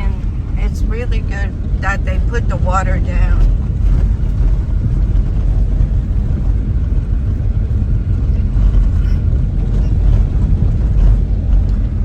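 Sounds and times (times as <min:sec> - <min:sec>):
car driving on dirt road: 0:00.0 - 0:12.0.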